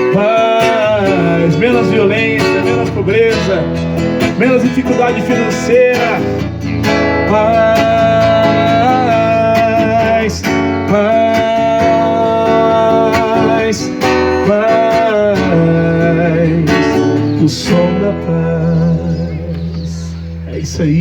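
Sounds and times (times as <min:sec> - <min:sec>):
person singing wordless notes: 0:00.0 - 0:21.0
strummed acoustic guitar: 0:00.0 - 0:21.0.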